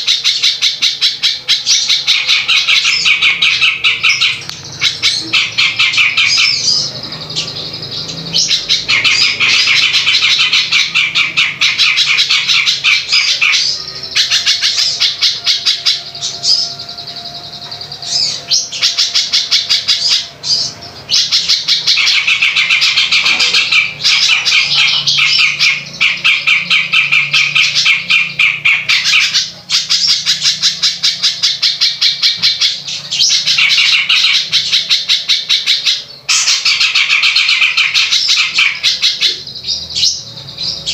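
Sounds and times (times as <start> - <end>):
songbird harsh chattering: 0.0 - 40.9.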